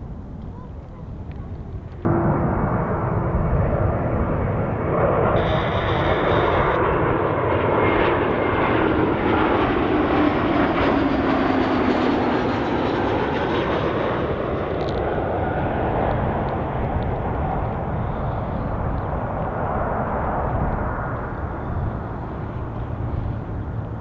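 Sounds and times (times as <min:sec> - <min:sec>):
jet airliner passing low: 0:00.0 - 0:24.0.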